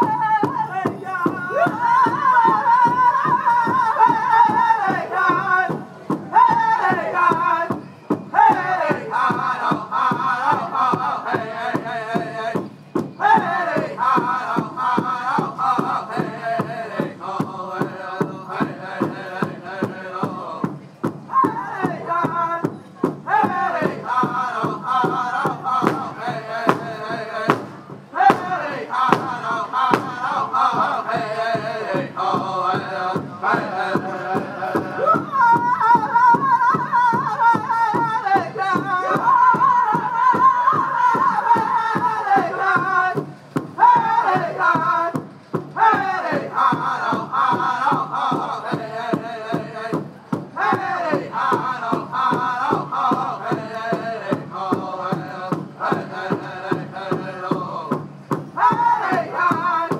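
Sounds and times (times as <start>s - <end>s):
drum group singing in high voices: 0.0s - 59.9s
steady big drum beat: 0.0s - 59.9s.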